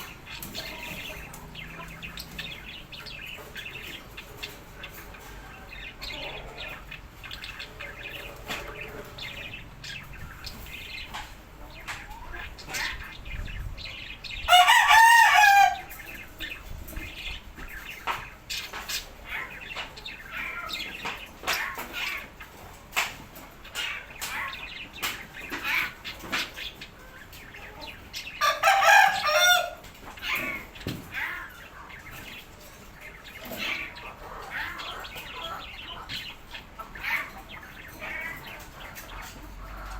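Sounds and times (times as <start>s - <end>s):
drawn-out wavering bird calls: 0.0s - 22.8s, 23.4s - 39.9s.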